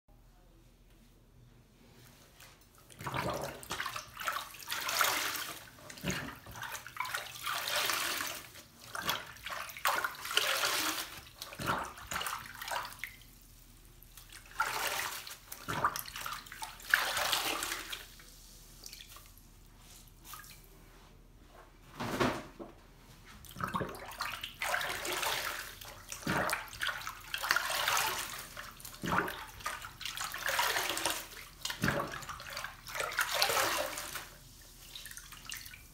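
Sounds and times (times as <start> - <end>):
sponges splashing in soapy water: 2.4 - 20.7, 23.4 - 35.9.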